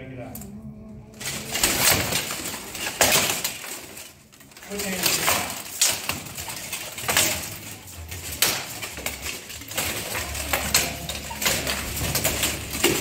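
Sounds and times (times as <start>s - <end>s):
armour clanking and rattling: 1.2s - 13.0s.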